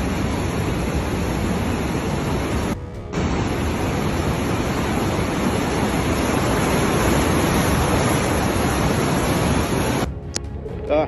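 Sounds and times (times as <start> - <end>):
floodwater rushing: 0.0 - 10.1.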